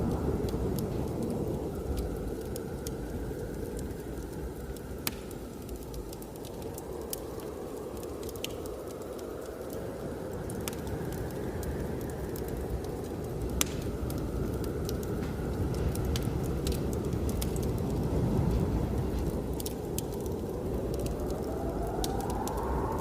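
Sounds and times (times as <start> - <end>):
blizzard wind rushing: 0.0 - 23.0
wood fire crackling: 0.0 - 23.0.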